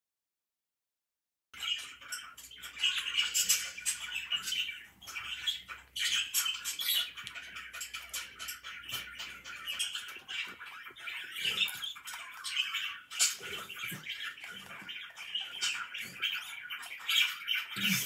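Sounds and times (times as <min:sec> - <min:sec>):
budgerigar warbling: 0:01.6 - 0:18.0.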